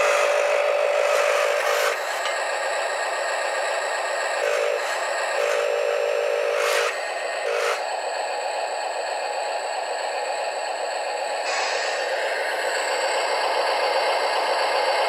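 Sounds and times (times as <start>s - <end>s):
electric motors and gearbox whining: 0.0s - 15.0s.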